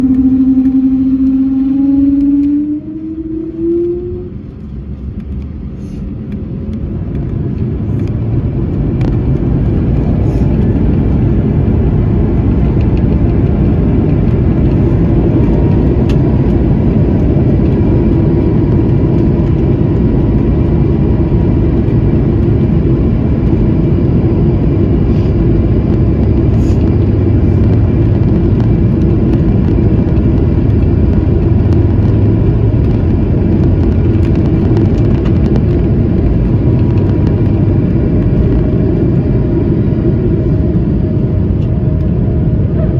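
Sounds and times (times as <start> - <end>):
jet engines spooling up: 0.0 - 42.9.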